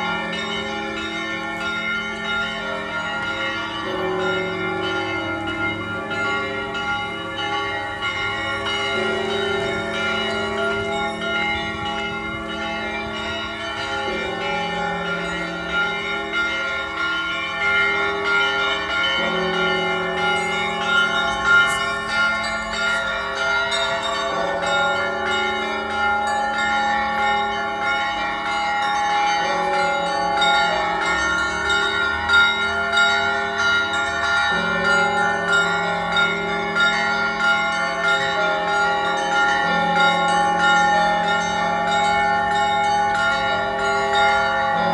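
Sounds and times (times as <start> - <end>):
large bells ringing: 0.0 - 44.9.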